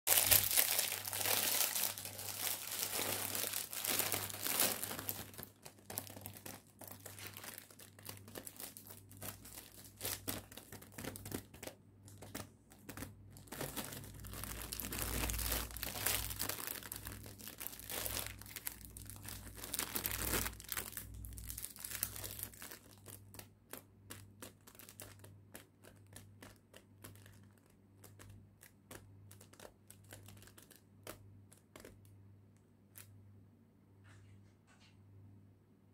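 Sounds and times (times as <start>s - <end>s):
plastic wrapping crinkling: 0.1s - 32.1s.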